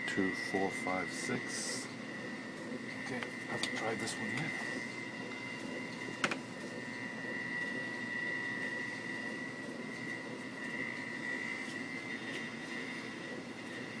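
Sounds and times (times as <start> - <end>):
high steady whine: 0.0 - 14.0
refrigerator hum: 0.0 - 14.0.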